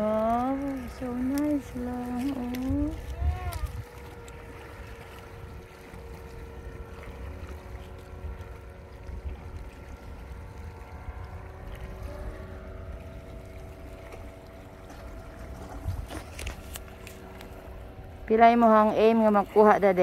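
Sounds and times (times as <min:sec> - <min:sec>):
faint steady hum: 0:00.0 - 0:20.0
wind rumbling on microphone: 0:00.0 - 0:20.0.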